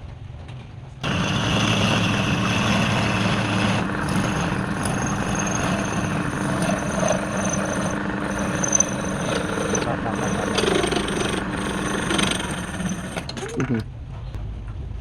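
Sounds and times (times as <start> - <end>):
lathe motor hum and whine: 1.0 - 13.6.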